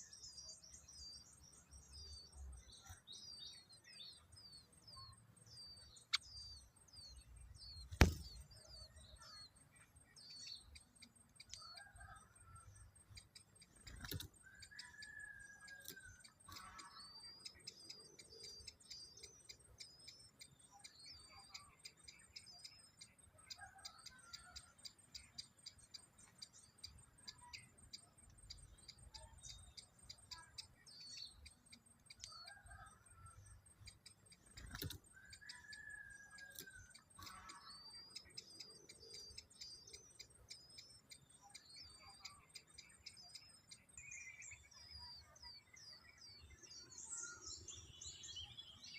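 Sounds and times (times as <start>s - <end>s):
high twittering birdsong: 0.0s - 48.9s.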